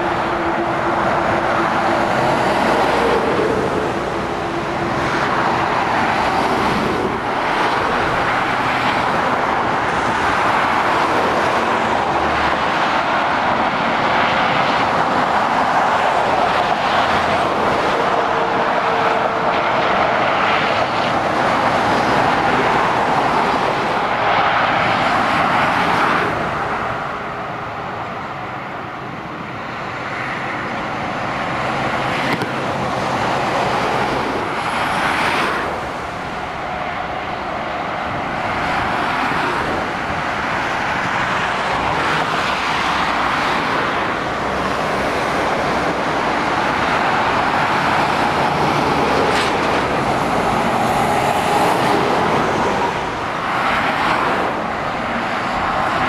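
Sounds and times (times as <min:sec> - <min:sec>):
lorries and cars passing: 0:00.0 - 0:56.0.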